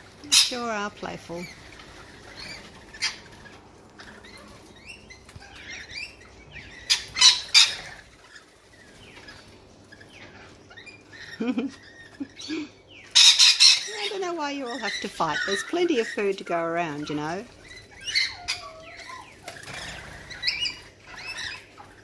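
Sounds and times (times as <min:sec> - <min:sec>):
parrots chattering and screeching: 0:00.0 - 0:22.0.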